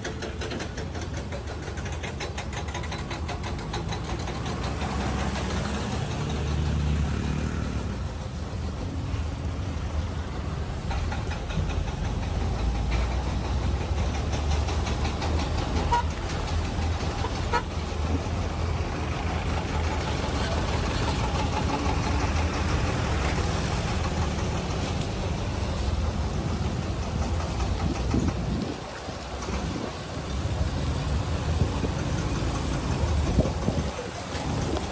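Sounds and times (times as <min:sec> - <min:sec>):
vehicle engines in slow traffic: 0:00.0 - 0:34.9.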